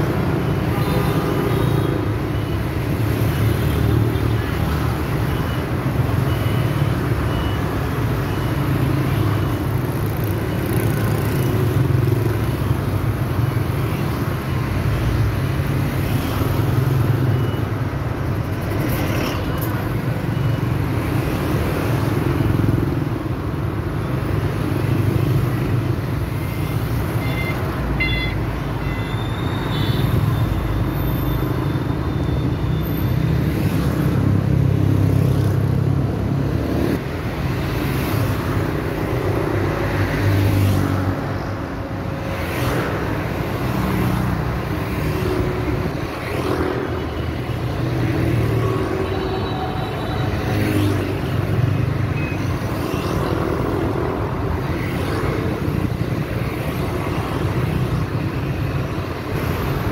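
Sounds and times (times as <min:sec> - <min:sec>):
motorbikes and cars passing: 0:00.0 - 0:59.9.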